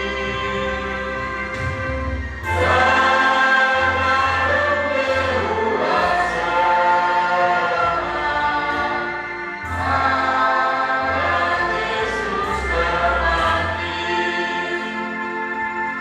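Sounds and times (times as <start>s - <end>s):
congregation singing a hymn: 0.0s - 16.0s
low sustained bass notes: 0.0s - 16.0s.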